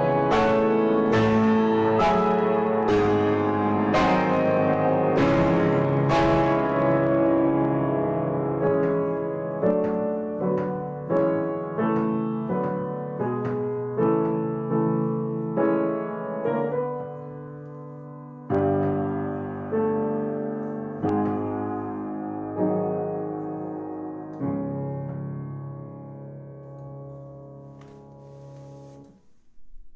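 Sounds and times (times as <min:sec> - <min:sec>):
piano playing slow chords: 0:00.0 - 0:29.2.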